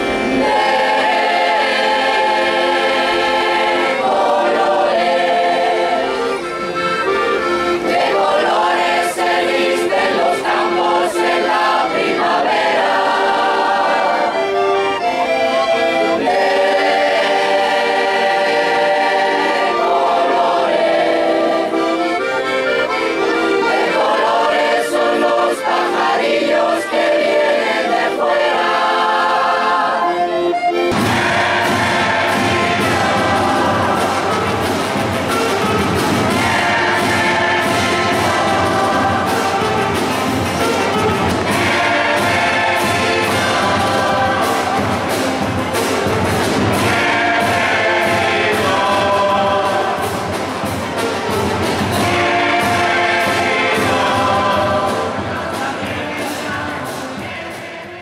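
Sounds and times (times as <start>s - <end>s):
accordion: 0.0s - 58.0s
mixed choir singing: 0.0s - 58.0s.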